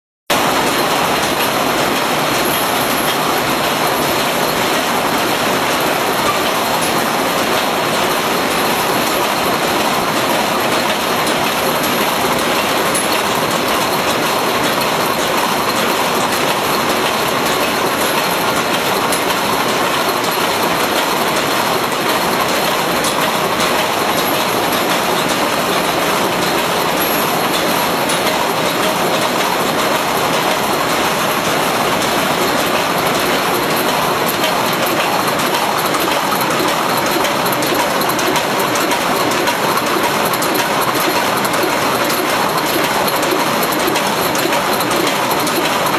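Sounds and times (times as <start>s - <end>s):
printing machine mechanical din: 0.3s - 45.9s.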